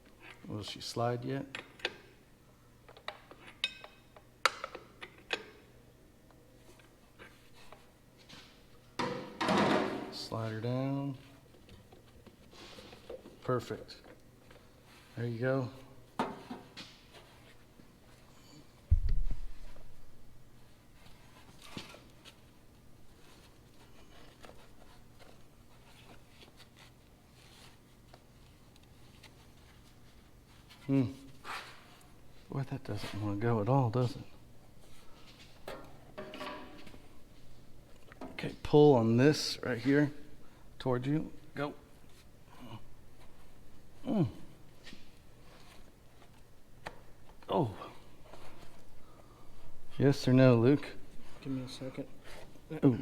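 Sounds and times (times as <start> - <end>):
faint handling sounds: 10.2 - 53.0.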